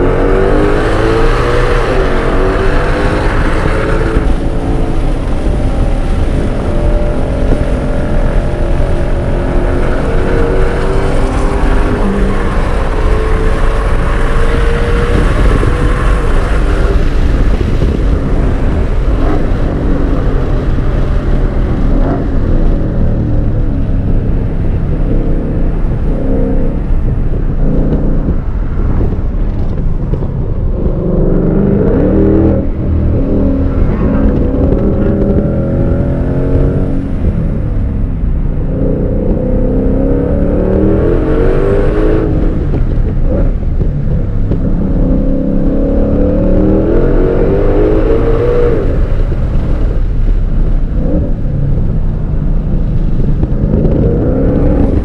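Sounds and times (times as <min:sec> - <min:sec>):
car engine revving hard: 0:00.0 - 0:28.8, 0:38.6 - 0:49.9, 0:50.8 - 0:55.0
road and wind noise: 0:00.0 - 0:55.0.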